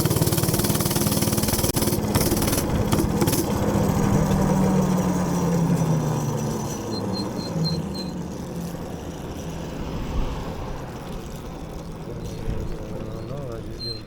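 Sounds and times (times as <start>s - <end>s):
minibike engine running: 0.0s - 14.0s.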